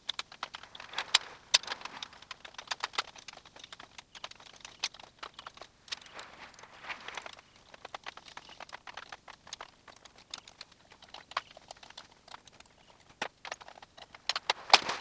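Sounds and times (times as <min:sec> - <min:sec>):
light clicks and taps: 0:00.0 - 0:15.0.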